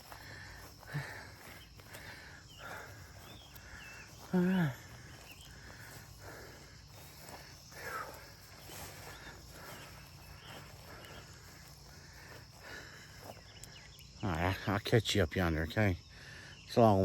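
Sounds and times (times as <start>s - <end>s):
footsteps through grass: 0.0s - 13.8s
crickets and insects chirping: 0.0s - 17.0s.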